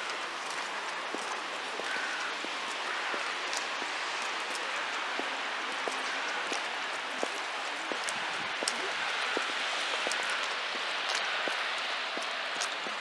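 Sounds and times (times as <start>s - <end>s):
footsteps on slushy path: 0.0s - 13.0s.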